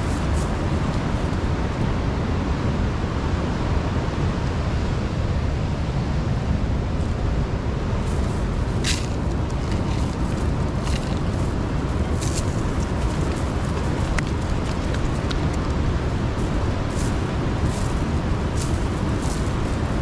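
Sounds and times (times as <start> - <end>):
rushing outdoor noise: 0.0 - 20.0.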